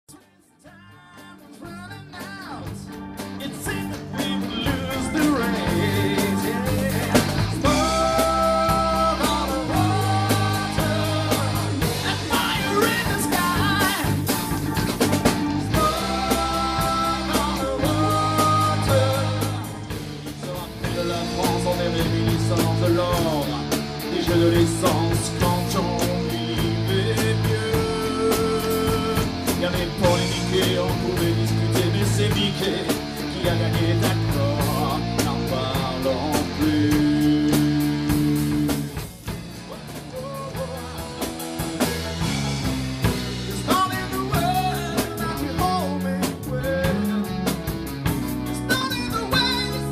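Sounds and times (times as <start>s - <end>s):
bass guitar: 0.0s - 49.9s
person singing: 0.1s - 14.4s, 15.4s - 39.0s, 39.6s - 42.4s, 43.0s - 47.6s, 48.4s - 49.9s
drum kit: 0.1s - 49.9s
electric guitar: 0.1s - 49.9s.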